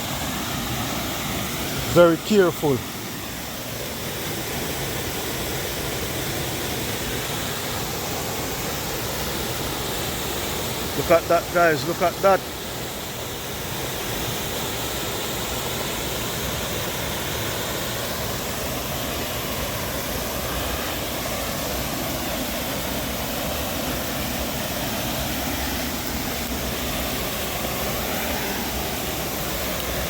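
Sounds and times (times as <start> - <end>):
waterfall and river rushing: 0.0 - 30.0.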